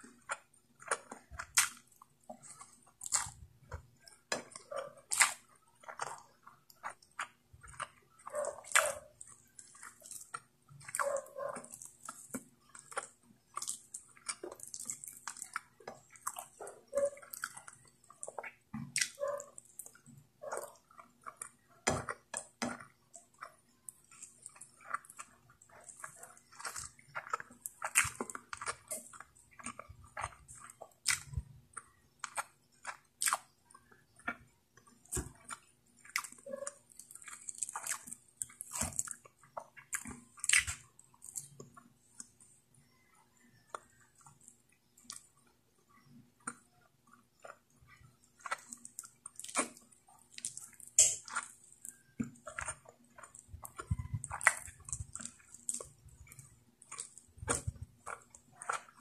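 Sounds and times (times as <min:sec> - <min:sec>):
person chewing with wet mouth sounds: 0:00.0 - 0:59.0.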